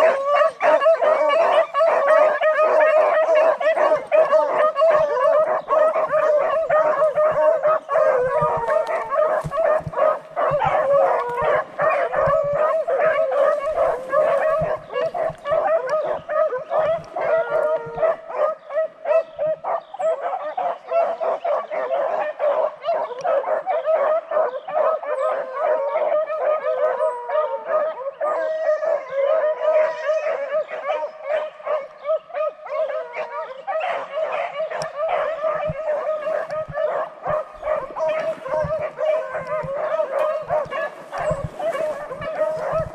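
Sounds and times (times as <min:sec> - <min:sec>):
hounds baying: 0:00.0 - 0:42.9.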